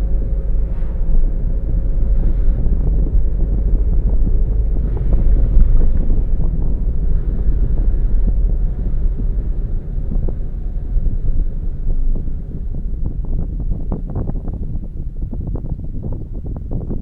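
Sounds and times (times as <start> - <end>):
car road and engine rumble: 0.0 - 17.0
wind buffeting microphone: 0.0 - 17.0.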